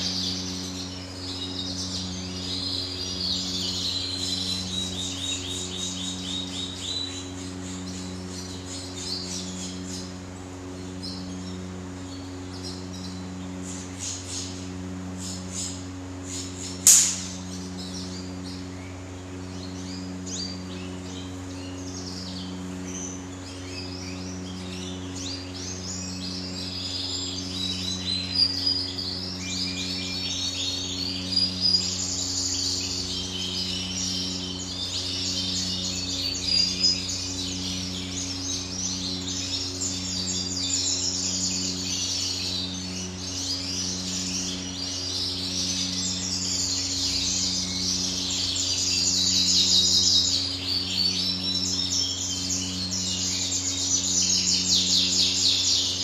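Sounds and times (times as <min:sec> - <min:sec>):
canaries chirping and trilling: 0:00.0 - 0:10.1, 0:11.0 - 0:18.6, 0:19.5 - 0:56.0
steady low hum: 0:00.0 - 0:56.0.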